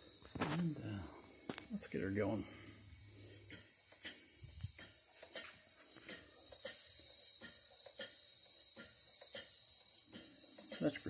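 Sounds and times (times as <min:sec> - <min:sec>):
steam engine: 0:00.0 - 0:11.0.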